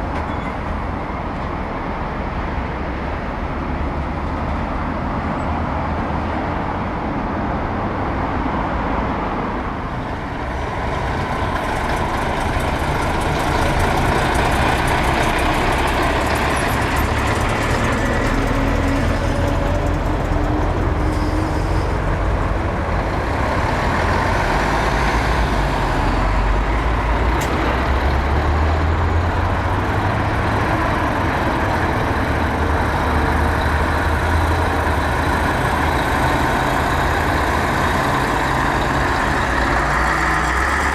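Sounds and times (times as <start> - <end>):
diesel trucks rumbling past: 0.0 - 40.9.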